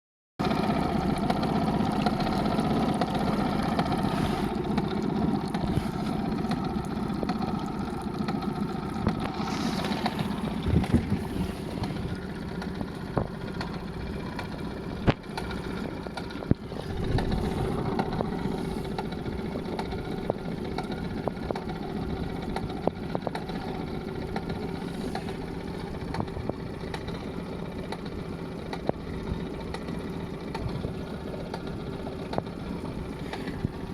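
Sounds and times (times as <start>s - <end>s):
outboard motor running with knock: 0.4s - 33.9s.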